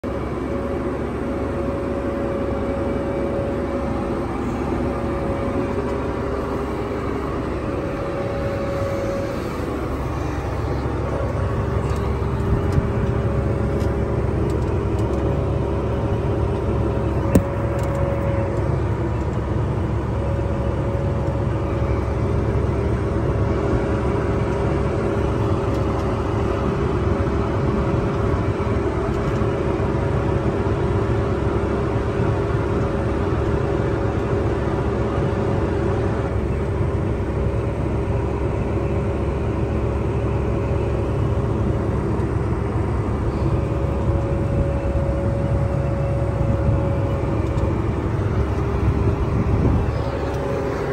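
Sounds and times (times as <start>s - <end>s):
steady whine: 0.0s - 50.9s
tractor engine rumble: 0.0s - 50.9s.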